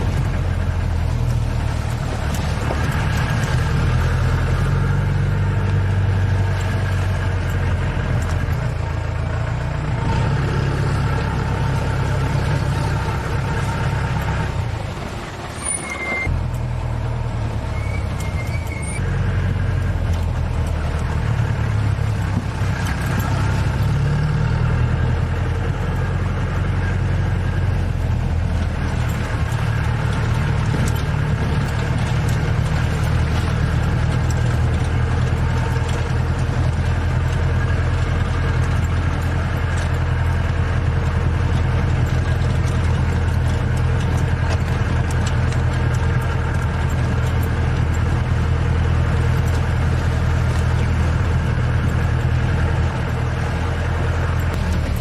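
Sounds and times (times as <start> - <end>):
road and body noise: 0.0 - 55.0
vehicle engine humming: 0.0 - 55.0.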